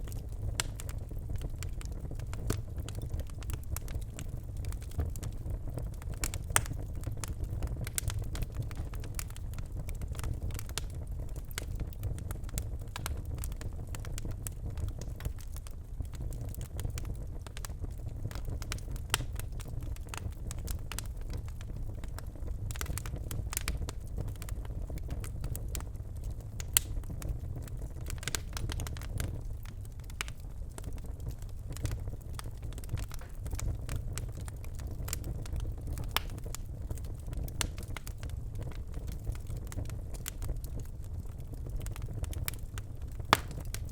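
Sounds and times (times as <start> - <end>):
fire crackling and popping: 0.0 - 43.9
low rumble of flames: 0.0 - 43.9.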